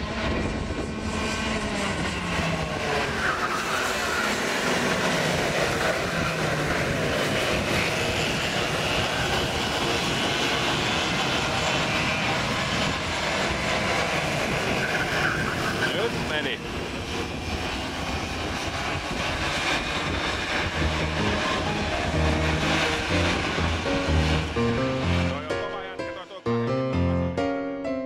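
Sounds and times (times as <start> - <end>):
kart engines racing: 0.0 - 25.5.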